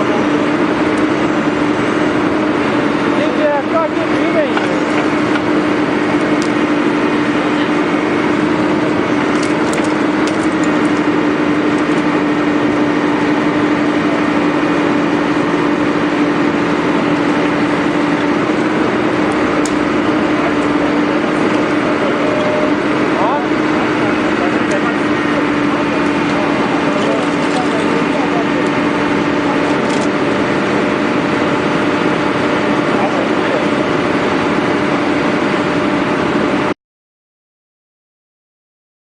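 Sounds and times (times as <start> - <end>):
excavator engine and hydraulics: 0.0 - 36.8.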